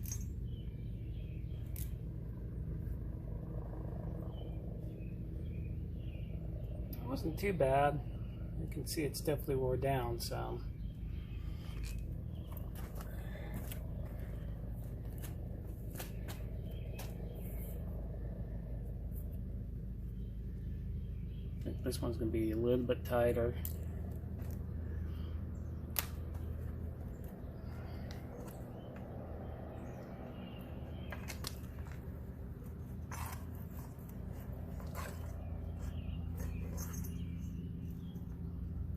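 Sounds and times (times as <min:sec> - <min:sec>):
steady low hum: 0:00.0 - 0:38.9
steady low rumble: 0:00.0 - 0:38.9.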